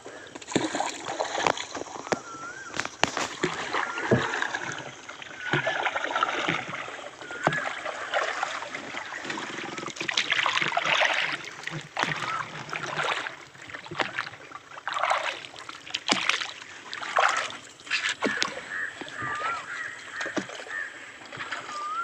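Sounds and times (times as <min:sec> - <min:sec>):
paddle splashing water: 0:00.0 - 0:22.0
paddle knocking hull: 0:00.3 - 0:22.0.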